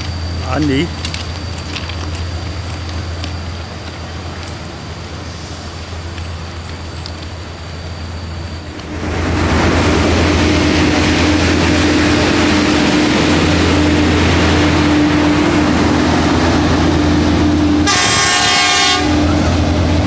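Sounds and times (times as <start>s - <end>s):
rail machine engine drone: 0.0s - 20.0s.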